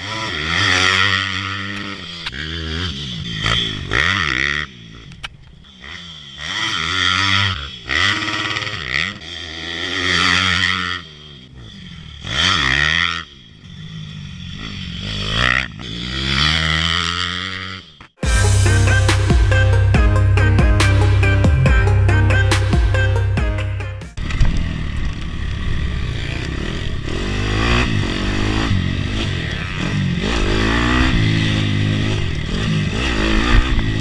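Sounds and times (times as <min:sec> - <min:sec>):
pit bike engines revving: 0:00.0 - 0:23.7, 0:25.0 - 0:34.0.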